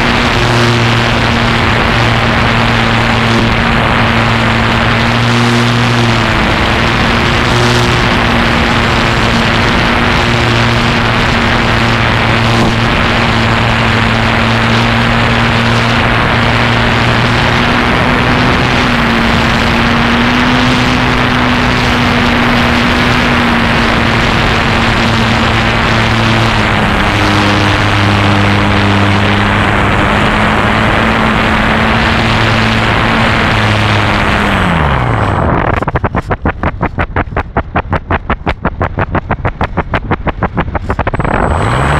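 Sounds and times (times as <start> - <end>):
model airplane motor droning: 0.0 - 36.5
wind on microphone: 0.0 - 41.9.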